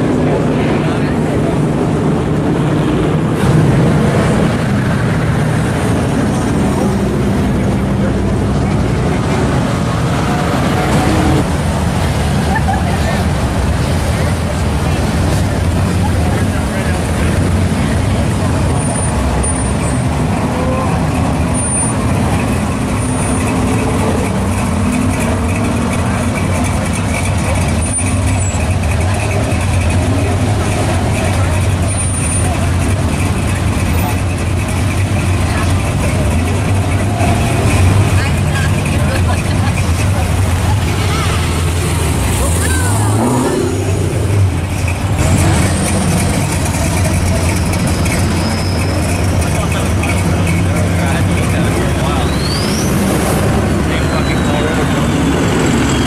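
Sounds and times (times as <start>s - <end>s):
car engine rolling by: 0.0s - 56.0s.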